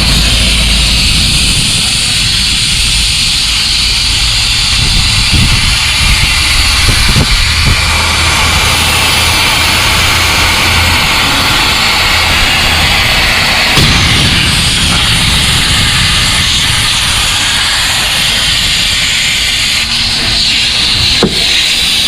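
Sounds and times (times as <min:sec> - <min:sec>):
steady hiss: 0:00.0 - 0:22.0
truck engine idling: 0:00.0 - 0:22.0.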